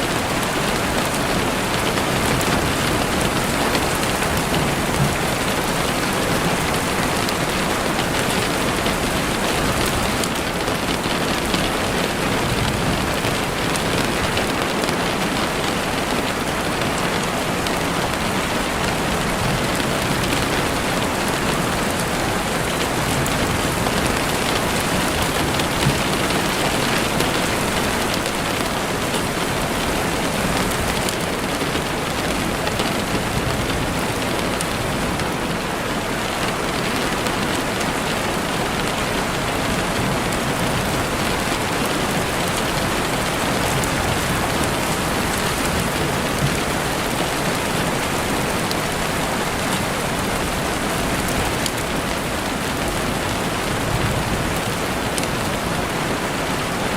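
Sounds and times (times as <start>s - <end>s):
rain falling through trees: 0.0s - 56.9s.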